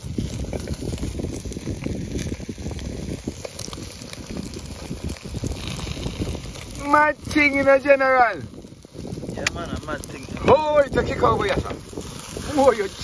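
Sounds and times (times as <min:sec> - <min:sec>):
chicken sizzling on a grill: 0:00.0 - 0:13.0
open fire crackling: 0:00.0 - 0:13.0.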